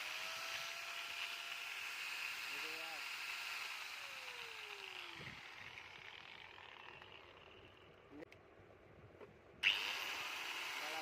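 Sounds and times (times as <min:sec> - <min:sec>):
angle grinder winding down: 0:00.0 - 0:08.0, 0:09.6 - 0:11.0.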